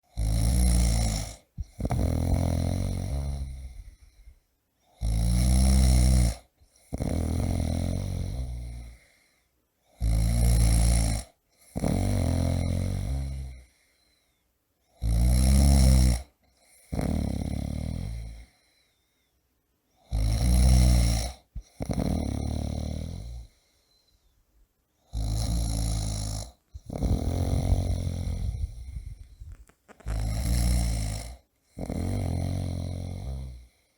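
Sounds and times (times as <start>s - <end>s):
man snoring: 0.0s - 4.3s, 4.9s - 9.2s, 9.9s - 13.8s, 15.0s - 18.6s, 20.0s - 23.6s, 25.1s - 33.9s.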